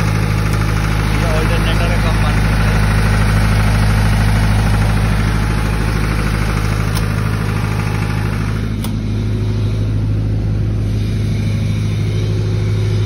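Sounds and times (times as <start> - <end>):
diesel generator engine humming: 0.0 - 13.0.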